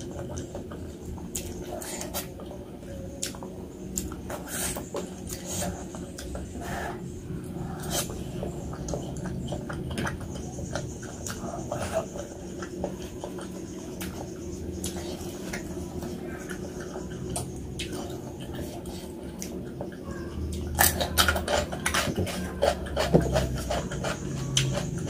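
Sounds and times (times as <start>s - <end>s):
low steady hum: 0.0s - 25.0s
mouth smacks and chewing: 0.0s - 25.0s.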